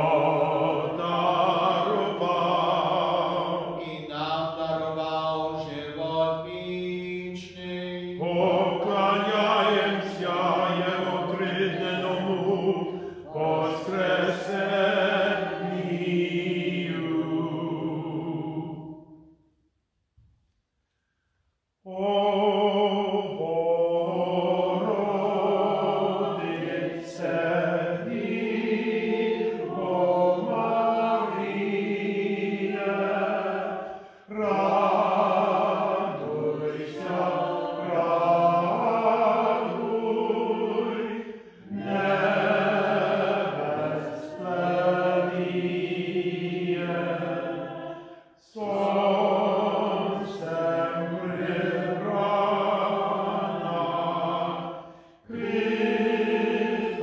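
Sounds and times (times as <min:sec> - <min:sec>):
unaccompanied liturgical chant: 0:00.0 - 0:19.3, 0:21.8 - 0:57.0.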